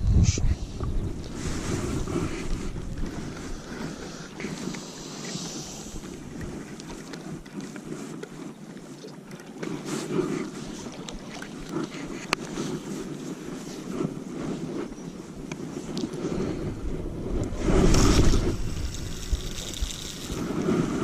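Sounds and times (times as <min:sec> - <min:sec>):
wind buffeting the microphone: 0:00.0 - 0:08.5, 0:09.8 - 0:21.0.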